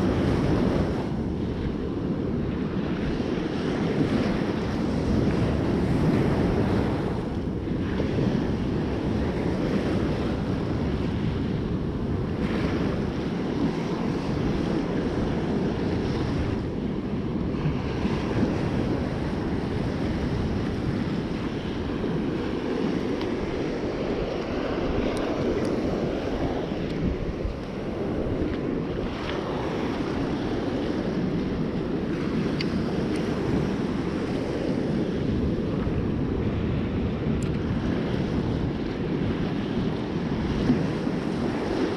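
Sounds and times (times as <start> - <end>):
storm surf breaking on sand: 0.0 - 41.9
wind buffeting microphone: 0.0 - 41.9.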